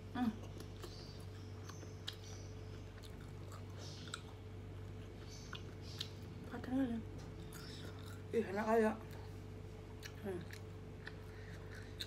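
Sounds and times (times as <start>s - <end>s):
chewing crispy food: 0.2s - 6.5s, 7.1s - 8.4s, 9.0s - 12.0s.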